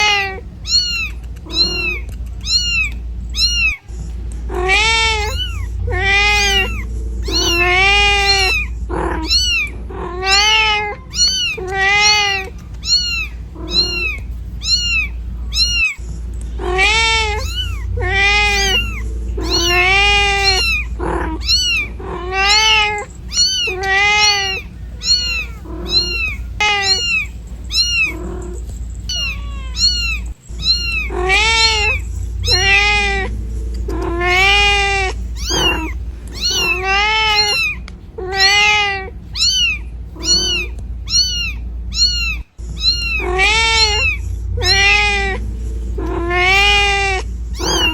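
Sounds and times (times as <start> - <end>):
cat meowing: 0.0 - 47.9
low rumble: 0.0 - 47.9.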